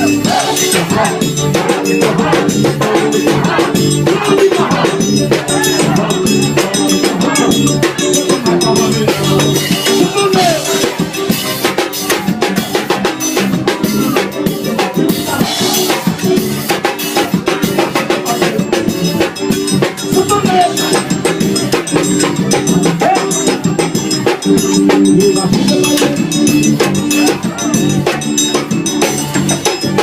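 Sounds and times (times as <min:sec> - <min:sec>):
drum kit beat: 0:00.0 - 0:30.0
pitched instruments: 0:00.0 - 0:30.0.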